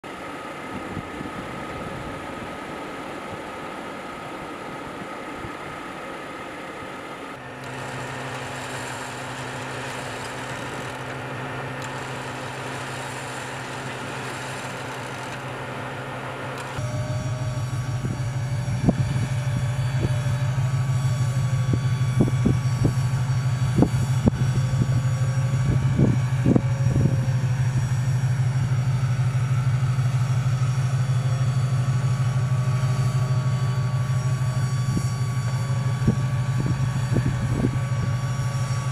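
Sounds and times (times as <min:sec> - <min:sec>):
low motor hum: 0:00.0 - 0:38.9.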